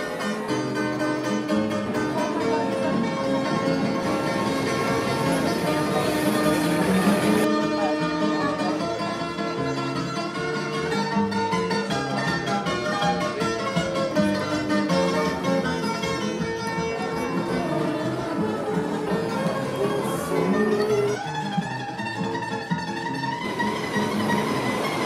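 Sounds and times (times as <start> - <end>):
plucked guitar music: 0.0 - 25.0.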